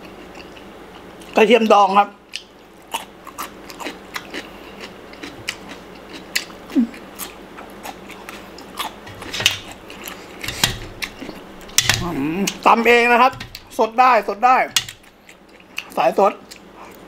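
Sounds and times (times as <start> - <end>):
person chewing crunchy food: 0.0 - 1.4, 2.3 - 13.8, 14.8 - 17.0.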